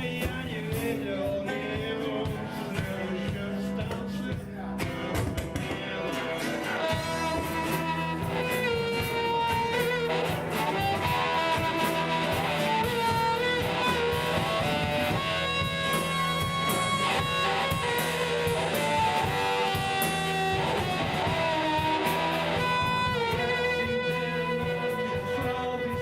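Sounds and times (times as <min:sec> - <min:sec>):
guitars strumming: 0:00.0 - 0:26.0
live rock band playing: 0:00.0 - 0:26.0.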